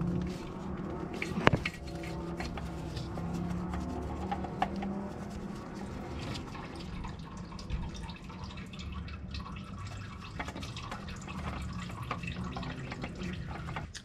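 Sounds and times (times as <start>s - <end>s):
gloved hand scraping oil filter: 0.0s - 7.9s, 9.9s - 13.9s
low hum: 0.0s - 14.0s
oil dripping into drain pan: 0.0s - 14.0s.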